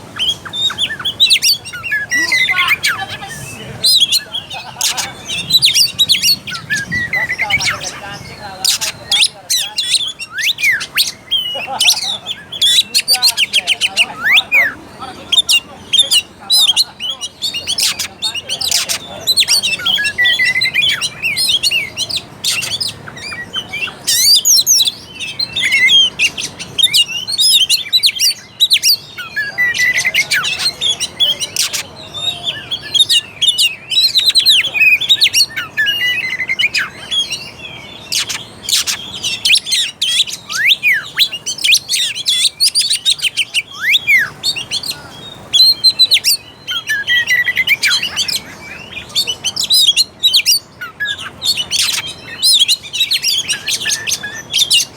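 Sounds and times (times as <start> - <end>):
bird singing whistled song: 0.0 - 54.9.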